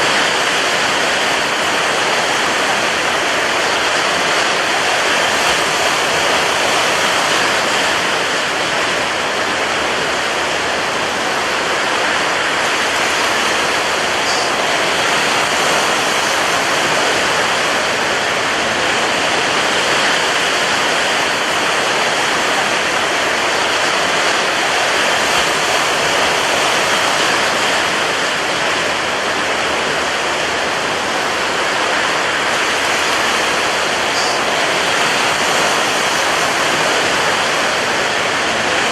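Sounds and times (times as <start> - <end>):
rough sea surf rushing: 0.0 - 38.9.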